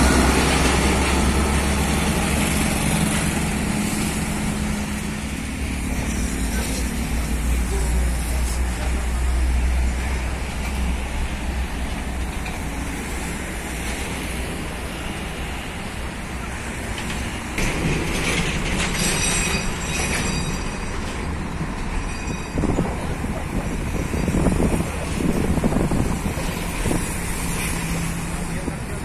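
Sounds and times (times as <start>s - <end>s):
truck engine rumble: 0.0s - 29.0s.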